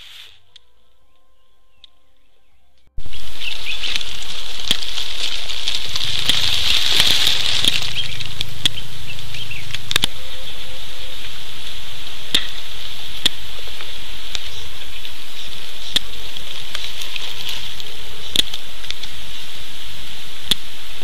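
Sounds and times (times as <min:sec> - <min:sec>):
high-pitched drone: 0:00.0 - 0:21.0
sharp clicks and crackles: 0:03.0 - 0:10.5, 0:11.2 - 0:21.0.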